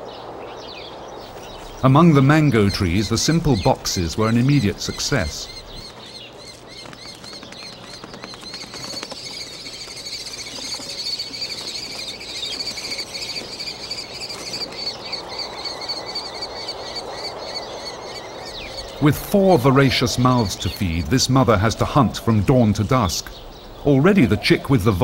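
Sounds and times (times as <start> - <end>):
bird chicks chittering: 0.0 - 25.0.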